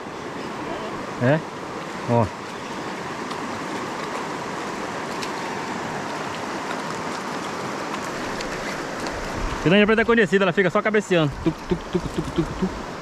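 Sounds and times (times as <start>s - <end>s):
river current rushing: 0.0s - 13.0s.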